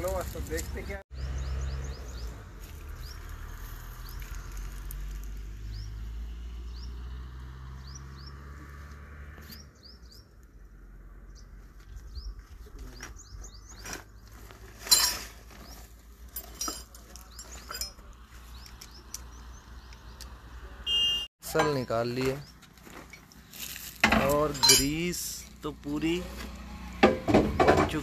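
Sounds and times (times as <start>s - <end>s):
small birds chirping: 0.0s - 8.6s, 9.4s - 14.7s, 16.9s - 27.0s.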